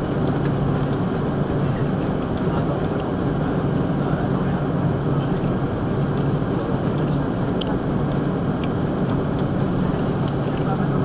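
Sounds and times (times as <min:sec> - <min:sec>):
airliner cabin noise while taxiing: 0:00.0 - 0:11.0.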